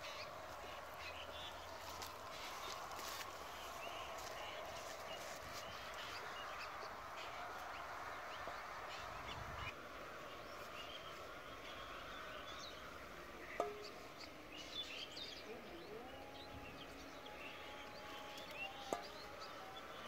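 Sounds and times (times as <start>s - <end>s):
low steady background noise: 0.0s - 20.0s.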